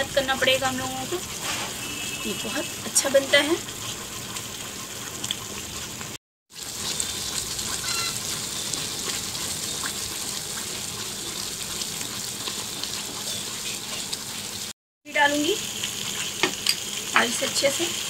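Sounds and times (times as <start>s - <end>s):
mixture sizzling in a pan: 0.0s - 18.0s.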